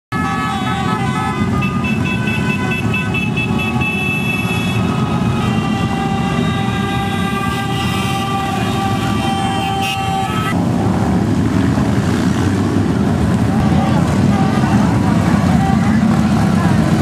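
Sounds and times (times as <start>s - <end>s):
motorcycle engines rumbling: 0.1s - 17.0s.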